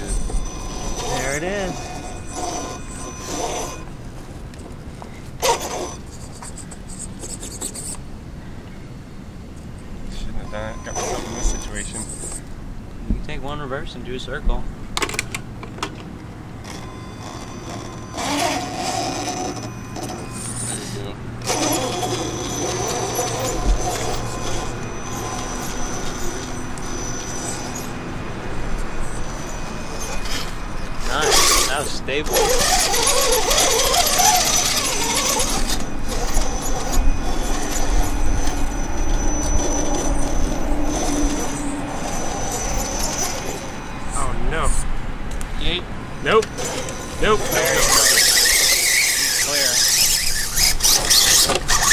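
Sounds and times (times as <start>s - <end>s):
electric motor and gears whining: 0.0s - 8.0s, 10.1s - 51.9s.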